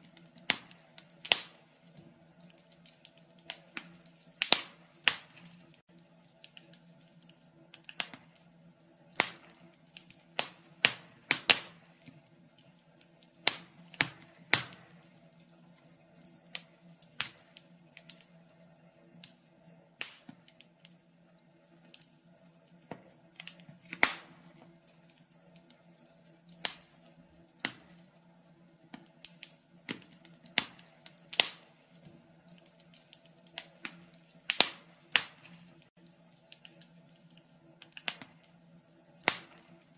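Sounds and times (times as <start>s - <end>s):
logs crackling in fireplace: 0.0s - 39.9s.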